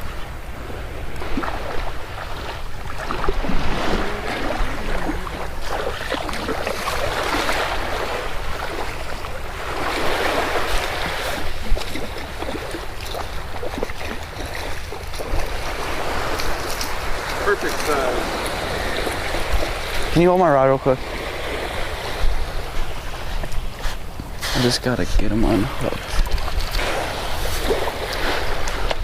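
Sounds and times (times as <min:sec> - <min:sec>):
ocean surf washing up beach: 0:00.0 - 0:29.0
wind rumble on microphone: 0:00.0 - 0:29.0.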